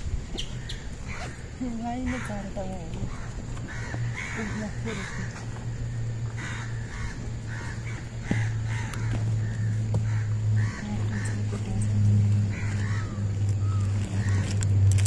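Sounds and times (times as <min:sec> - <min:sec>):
birds calling: 0:00.0 - 0:15.0
steady low hum: 0:00.0 - 0:15.0.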